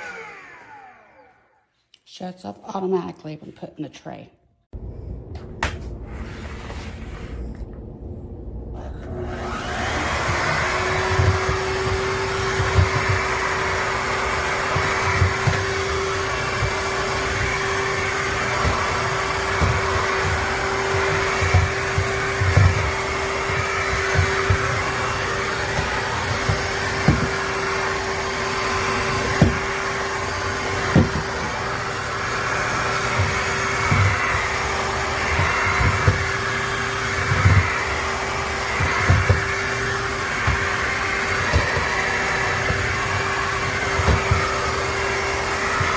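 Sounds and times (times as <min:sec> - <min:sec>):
vacuum motor drone: 0:04.8 - 0:45.9.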